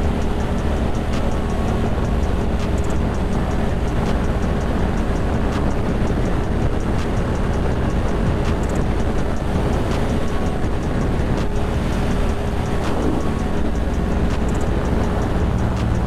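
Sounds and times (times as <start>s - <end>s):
motorcycle engine running: 0.0s - 16.0s
wind rushing: 0.0s - 16.0s.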